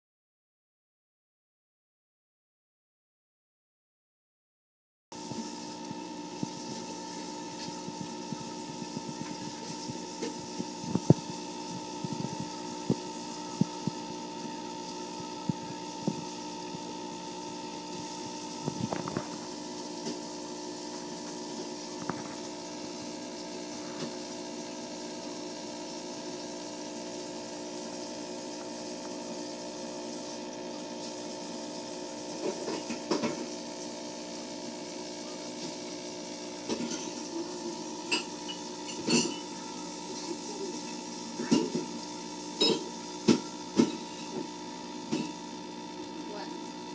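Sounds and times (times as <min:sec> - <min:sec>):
aquarium equipment humming: 0:05.2 - 0:46.9.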